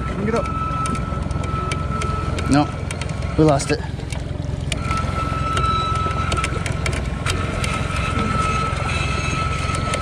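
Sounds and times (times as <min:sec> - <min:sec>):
boat engine idling: 0:00.0 - 0:10.0
winch motor whine: 0:00.0 - 0:10.0.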